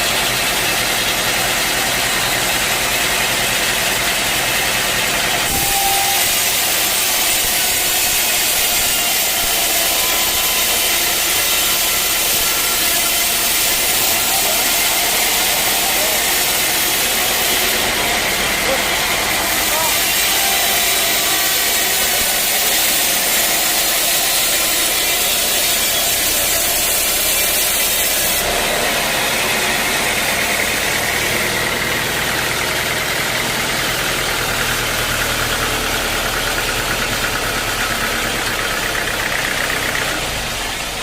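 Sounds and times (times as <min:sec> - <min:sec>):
sawmill saw running: 0:00.0 - 0:41.0.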